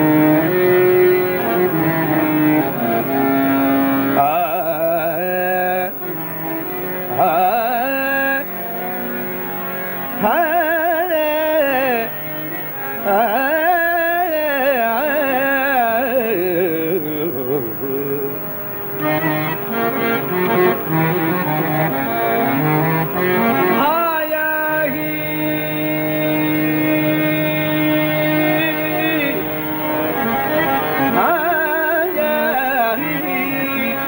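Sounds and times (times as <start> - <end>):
man singing devotional melody: 0.0 - 34.0.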